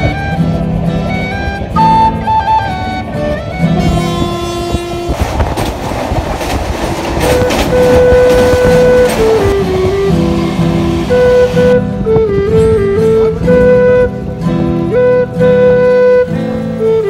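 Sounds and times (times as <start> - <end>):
flute and guitar music: 0.0 - 17.0
train rumbling on rails: 0.0 - 17.0
wheels clattering over rail joints: 0.0 - 17.0.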